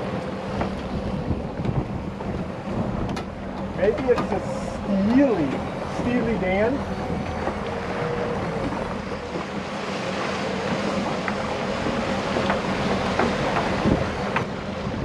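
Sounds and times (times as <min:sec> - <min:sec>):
boat engine humming: 0:00.0 - 0:15.0
water washing past hull: 0:00.0 - 0:15.0
wind on microphone: 0:00.0 - 0:15.0.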